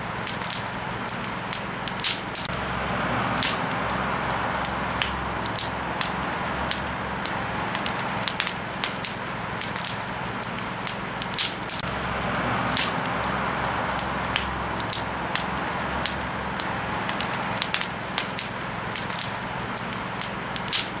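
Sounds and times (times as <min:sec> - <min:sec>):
campfire crackling: 0:00.0 - 0:21.0
hiss of flame: 0:00.0 - 0:21.0
wood popping and snapping: 0:00.0 - 0:21.0.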